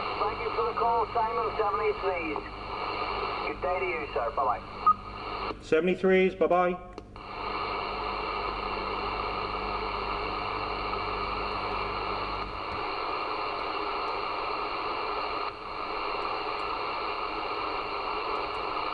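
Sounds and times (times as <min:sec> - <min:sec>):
radio static hiss: 0:00.0 - 0:06.2, 0:07.0 - 0:18.9.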